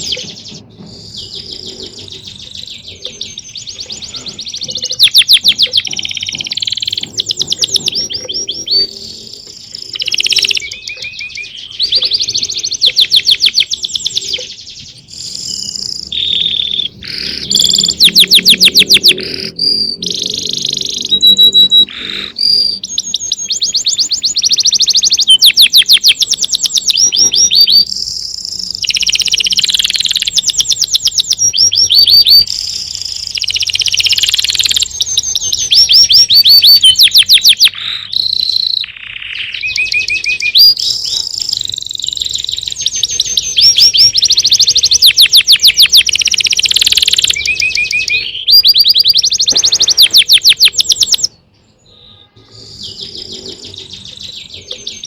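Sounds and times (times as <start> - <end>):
songbirds trilling and chirping: 0.0 - 55.0.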